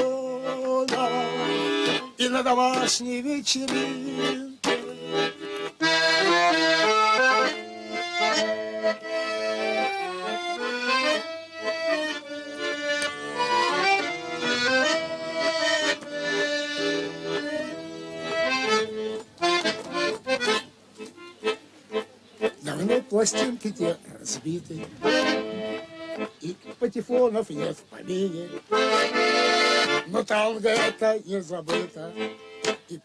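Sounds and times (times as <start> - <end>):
accordion playing tango: 0.0 - 33.0.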